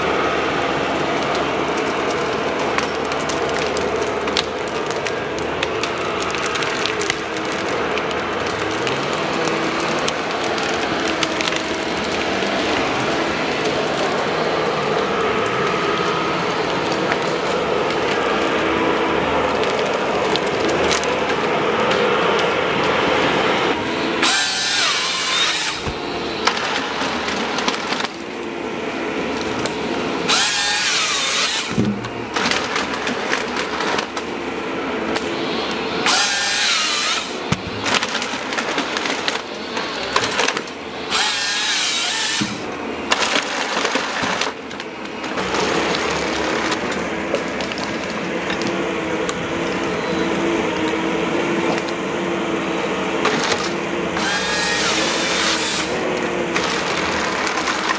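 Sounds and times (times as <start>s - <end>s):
harvester engine and hydraulics droning: 0.0s - 57.9s
saw cutting through stems: 0.0s - 57.9s.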